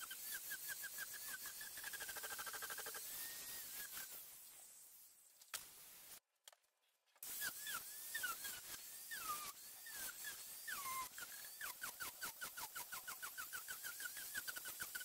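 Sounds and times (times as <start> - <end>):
angle grinder sanding foam: 0.0 - 5.1, 7.2 - 15.0.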